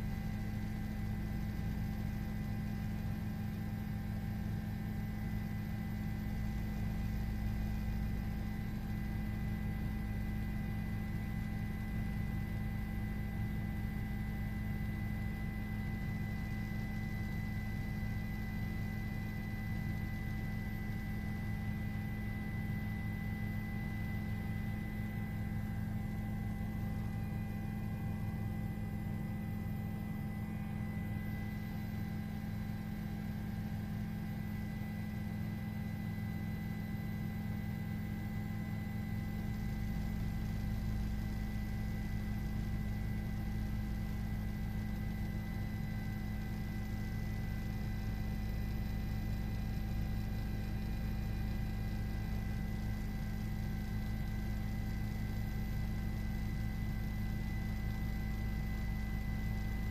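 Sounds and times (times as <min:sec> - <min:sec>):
faint steady tones: 0:00.0 - 0:59.9
steady low hum: 0:00.0 - 0:59.9.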